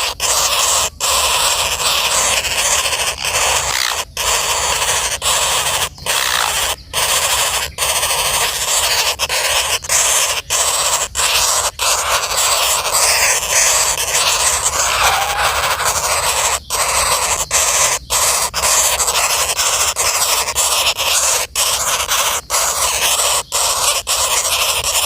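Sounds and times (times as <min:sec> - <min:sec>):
woodpeckers harsh raspy calls: 0:00.0 - 0:25.0.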